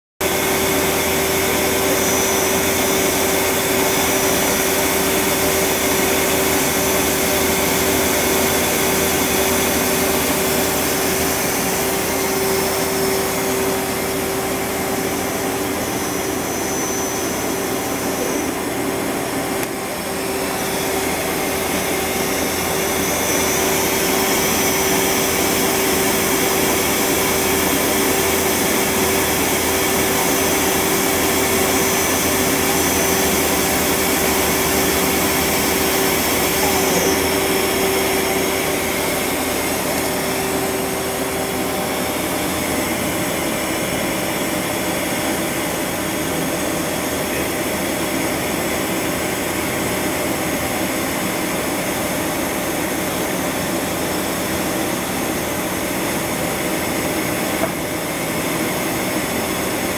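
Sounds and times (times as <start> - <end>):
machine tool whining: 0.2 - 59.9.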